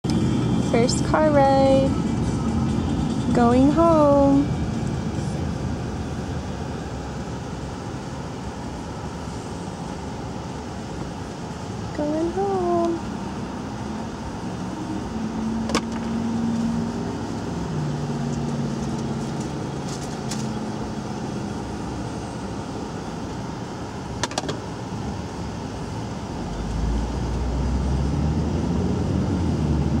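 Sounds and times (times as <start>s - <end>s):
car engine and road hum: 0.0s - 30.0s.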